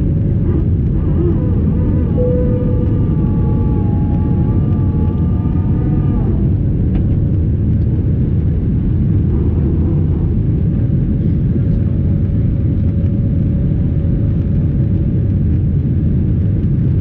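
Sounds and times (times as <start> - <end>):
jet cabin rumble: 0.0 - 17.0
wavering whine: 0.0 - 17.0.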